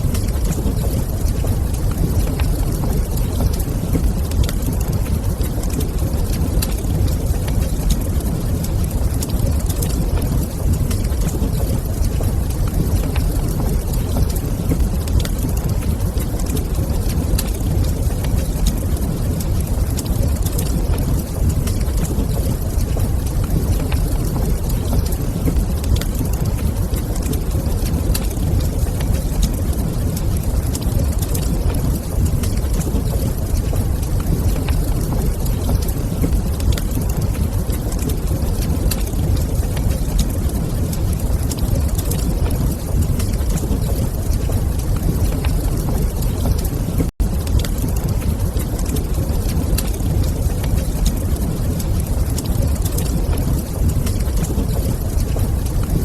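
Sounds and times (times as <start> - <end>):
low ambient rumble: 0.0 - 56.0
wood fire crackling: 0.0 - 56.0.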